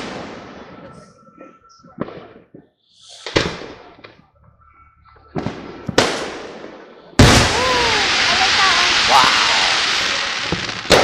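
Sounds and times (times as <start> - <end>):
distant fireworks booming: 0.0 - 4.3, 5.3 - 11.0.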